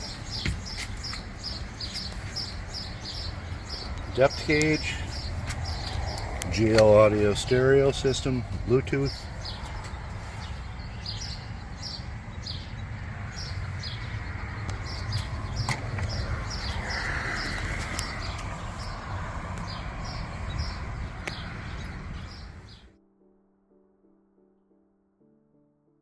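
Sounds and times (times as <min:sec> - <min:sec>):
low outdoor rumble: 0:00.0 - 0:22.8.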